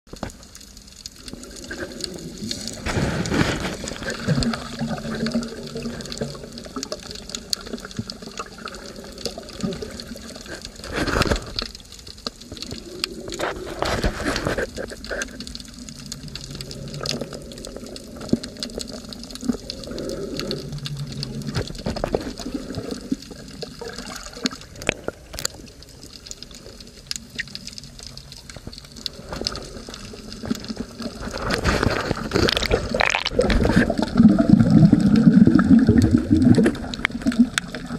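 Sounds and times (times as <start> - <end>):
muffled underwater water wash: 0.1 - 37.9.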